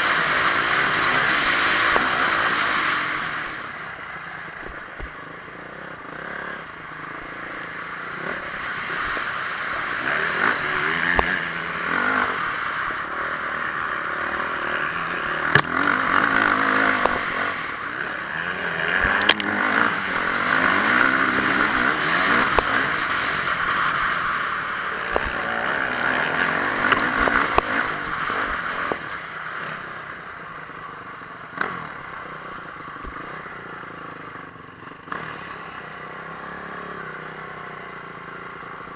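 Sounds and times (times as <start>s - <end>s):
steady rushing noise: 0.0s - 35.3s
motocross bike engine revving: 0.0s - 38.9s.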